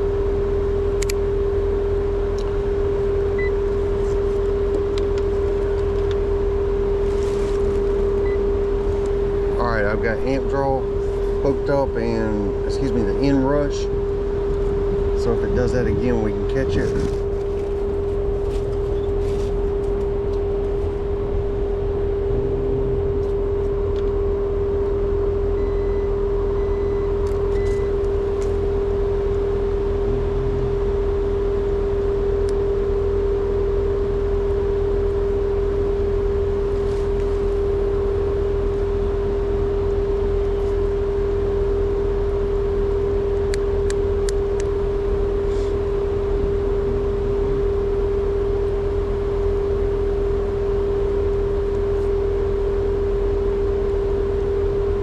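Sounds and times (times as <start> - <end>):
air conditioning unit humming: 0.0 - 55.0.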